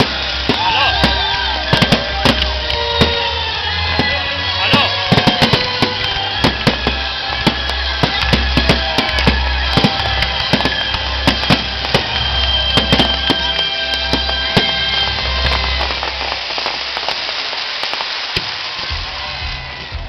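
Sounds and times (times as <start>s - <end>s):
fireworks crackling and popping: 0.0s - 20.0s
music playing: 0.0s - 20.0s.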